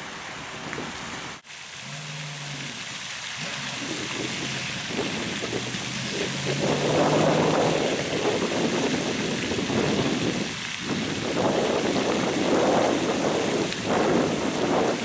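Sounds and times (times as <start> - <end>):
wind buffeting microphone: 0.3 - 15.0.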